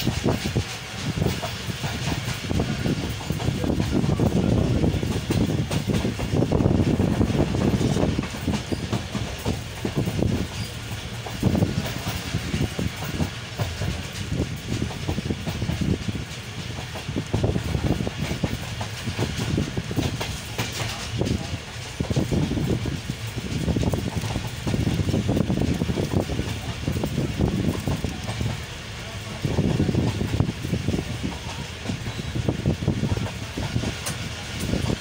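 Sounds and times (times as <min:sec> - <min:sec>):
clickety-clack over rails: 0:00.0 - 0:35.0
train wheels rumbling: 0:00.0 - 0:35.0.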